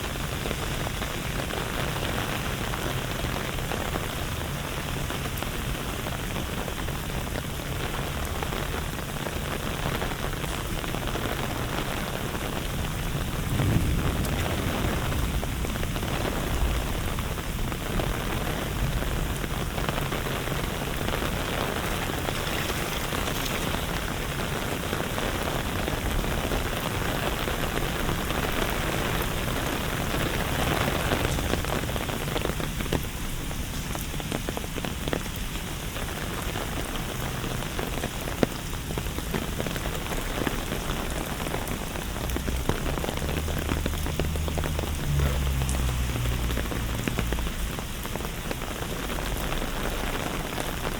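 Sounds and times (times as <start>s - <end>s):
rain on hard surfaces: 0.0s - 50.9s.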